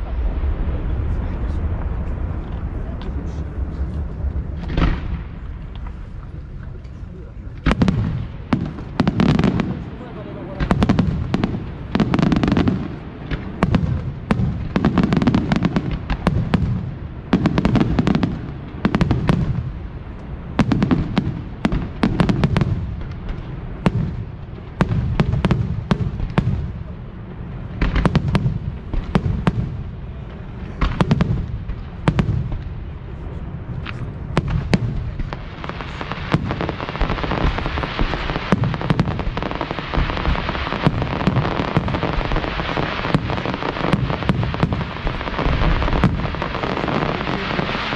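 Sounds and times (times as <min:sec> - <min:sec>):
low firework booms: 0:00.0 - 0:47.9
steady hiss: 0:00.0 - 0:47.9.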